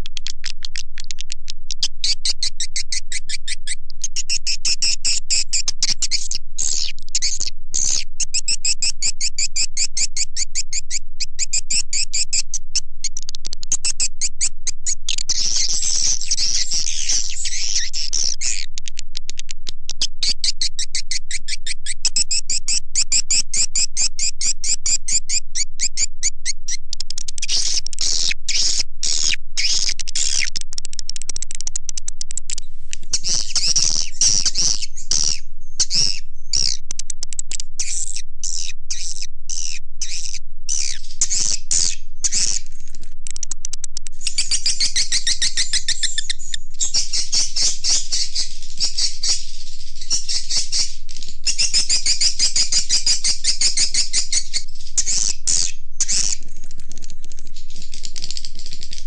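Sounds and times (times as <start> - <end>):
swiftlets twittering and chirping: 0.5 - 18.7, 19.9 - 59.0.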